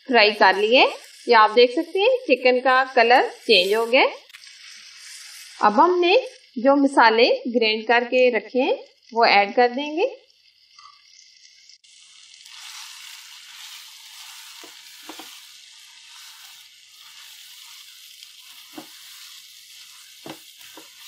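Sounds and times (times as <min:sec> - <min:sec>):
chicken sizzling in hot fat: 0:00.0 - 0:21.0.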